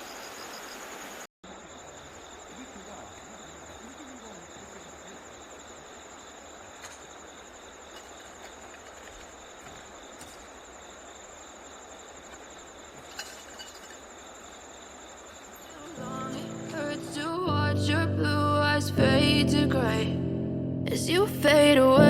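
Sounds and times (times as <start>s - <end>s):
insects trilling: 0.0s - 20.2s.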